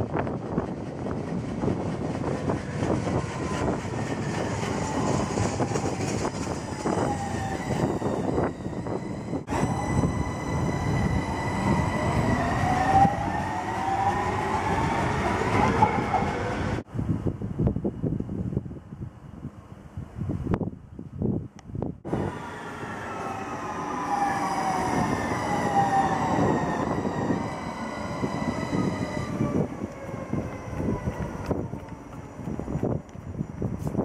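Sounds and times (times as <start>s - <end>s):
train wheels rumbling on rails: 0.0s - 16.9s, 22.0s - 34.0s
electric train whine: 0.0s - 19.8s, 22.1s - 34.0s.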